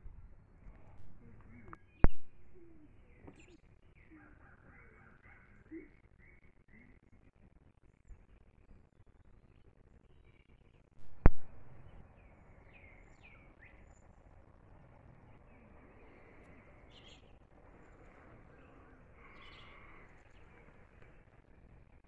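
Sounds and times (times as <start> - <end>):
birds chirping: 0.6 - 8.8, 9.4 - 22.0.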